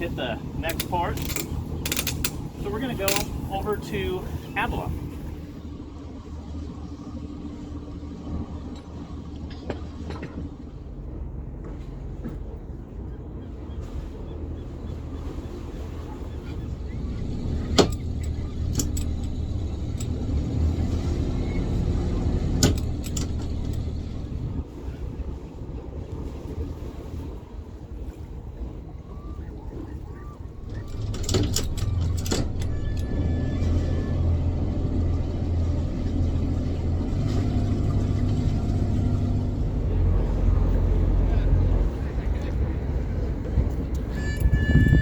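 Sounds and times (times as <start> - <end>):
boat engine rumbling: 0.0 - 45.0.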